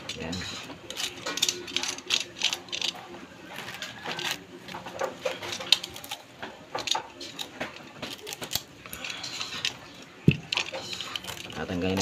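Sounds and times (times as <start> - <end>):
crackling and snapping: 0.0 - 12.0.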